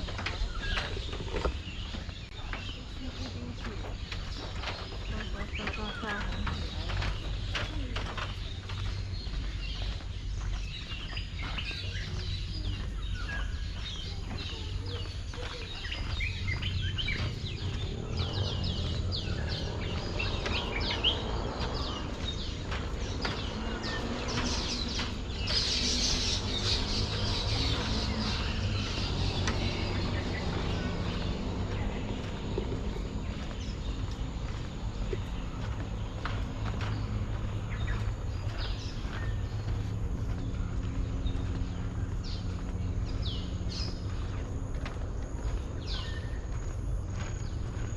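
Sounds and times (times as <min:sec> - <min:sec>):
birds chirping: 0:00.0 - 0:47.9
low rumble: 0:00.0 - 0:47.9.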